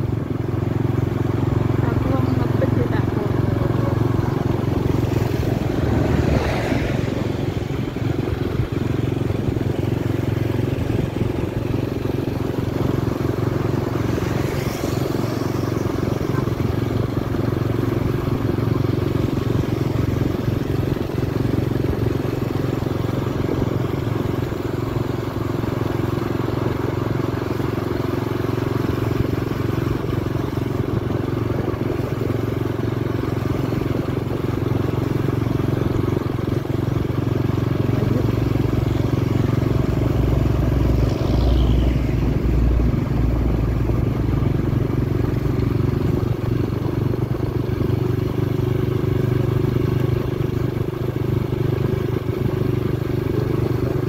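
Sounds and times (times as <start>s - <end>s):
engine hum: 0.0s - 54.0s
road and wind rush: 0.0s - 54.0s.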